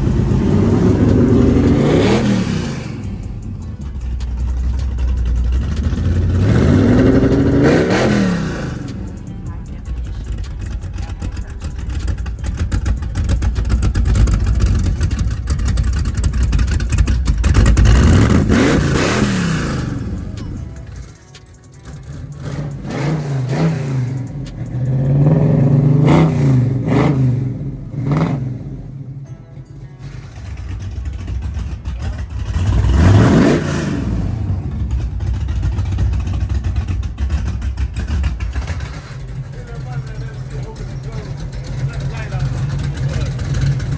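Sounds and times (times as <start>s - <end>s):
vee eight engine rumbling and revving: 0.0s - 43.9s.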